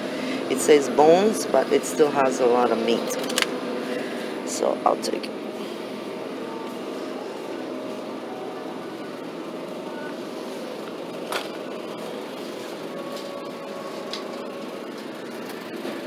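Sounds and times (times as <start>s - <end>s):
mechanical background hum: 0.0s - 16.0s.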